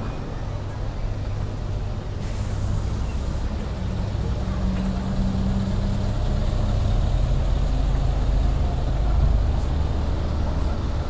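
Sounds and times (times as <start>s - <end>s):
heavy vehicle engine rumbling: 0.0s - 11.0s.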